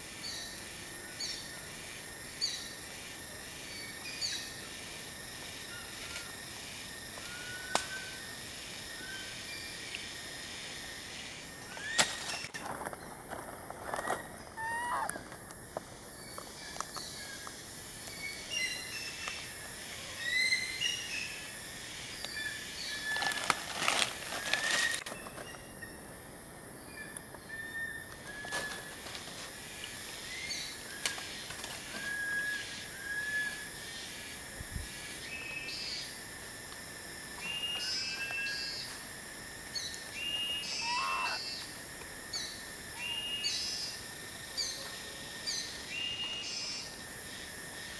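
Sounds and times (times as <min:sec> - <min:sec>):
outdoor background hiss: 0:00.0 - 0:47.9.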